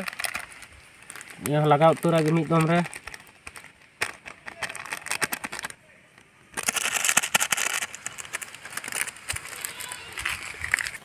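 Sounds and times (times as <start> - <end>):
dry rustling and crackling: 0.0 - 11.0
light clicks and crackles: 0.0 - 11.0.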